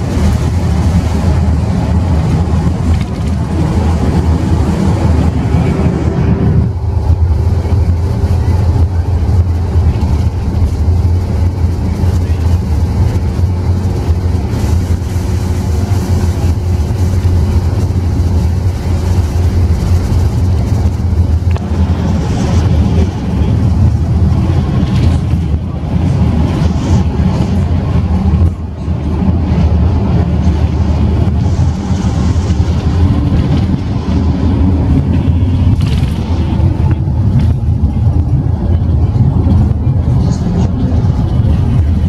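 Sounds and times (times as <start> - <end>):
bus engine drone: 0.0 - 42.0
road and tyre noise: 0.0 - 42.0.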